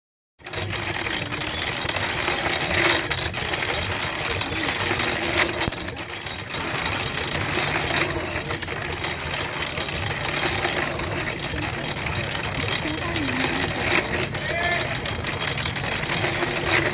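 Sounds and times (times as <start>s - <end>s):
baler mechanical clatter: 0.4s - 16.9s
engine running: 0.4s - 16.9s.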